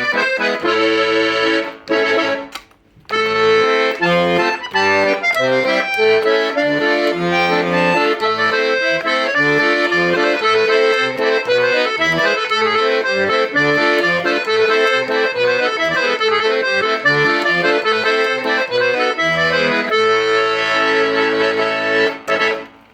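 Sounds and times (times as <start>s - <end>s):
accordion playing a tune: 0.0s - 22.9s.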